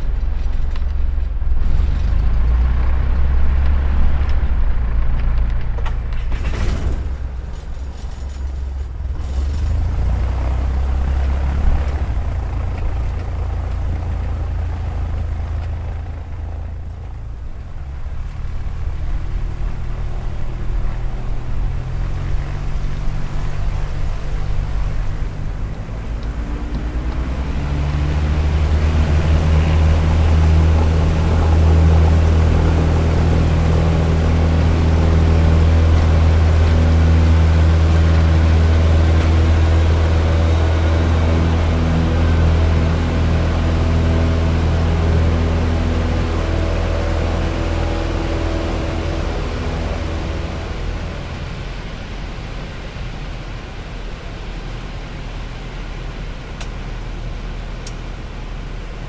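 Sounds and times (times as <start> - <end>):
piston engine and propeller drone: 0.0 - 59.0.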